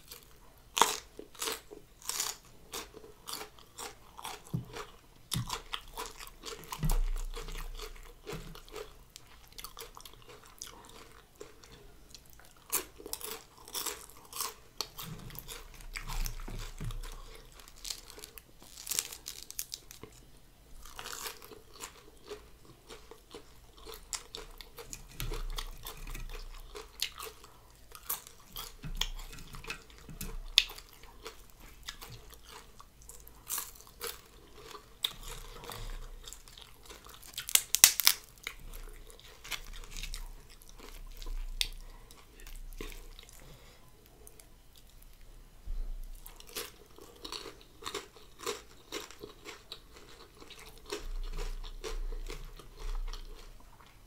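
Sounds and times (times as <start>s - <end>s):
person chewing and crunching: 0.0s - 45.3s, 46.1s - 54.0s.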